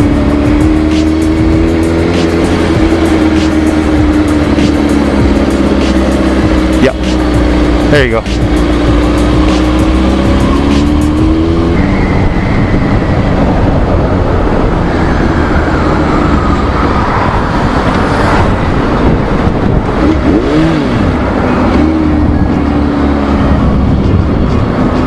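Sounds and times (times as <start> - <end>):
motorcycle engine accelerating: 0.0 - 25.0
wind and road noise: 0.0 - 25.0.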